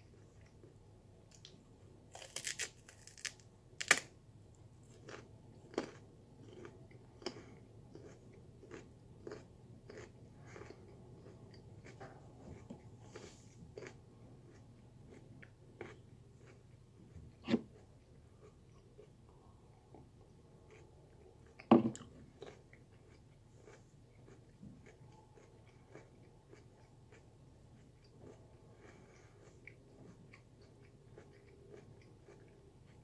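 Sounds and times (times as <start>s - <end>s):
crunching and chewing sweet potato: 0.0s - 4.2s, 4.8s - 33.0s.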